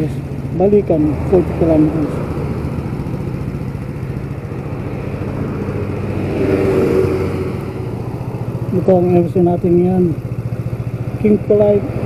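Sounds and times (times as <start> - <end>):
cars passing: 0.0 - 12.0
vehicle engine idling: 0.0 - 12.0.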